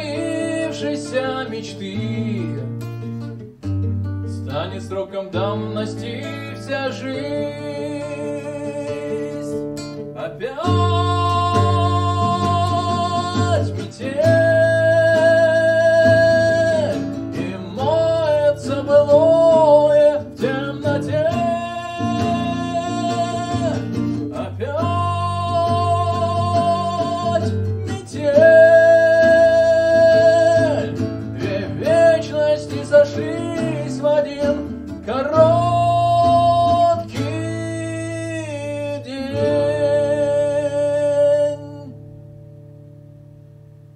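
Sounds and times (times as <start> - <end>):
man singing: 0.0 - 3.0, 4.3 - 42.1
strummed classical guitar: 0.0 - 43.9.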